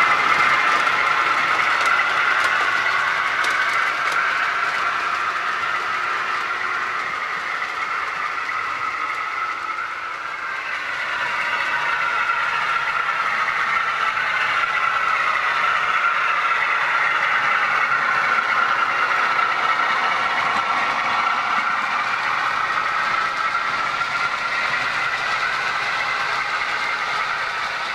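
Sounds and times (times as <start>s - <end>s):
model train wheels clattering: 0.0s - 27.9s.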